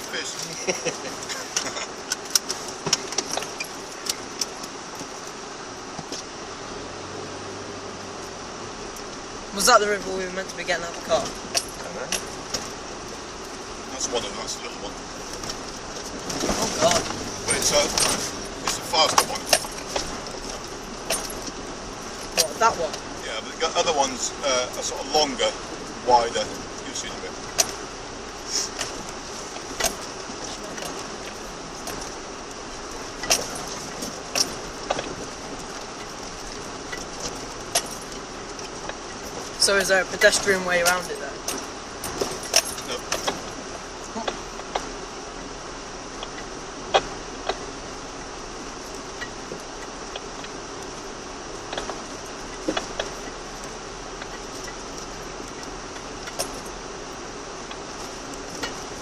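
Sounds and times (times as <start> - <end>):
car rattles and knocks: 0.0 - 6.4, 8.2 - 59.0
car engine and tyre noise: 0.0 - 59.0.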